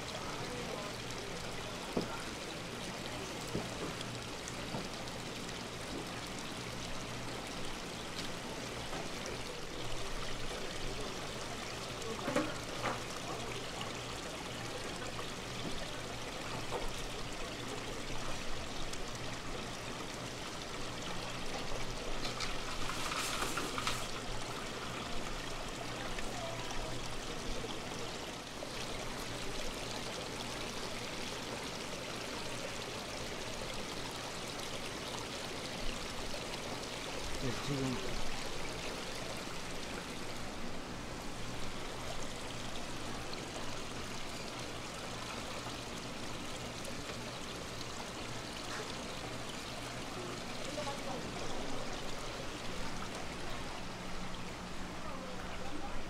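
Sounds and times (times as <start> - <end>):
water pouring and bubbling: 0.0 - 56.0.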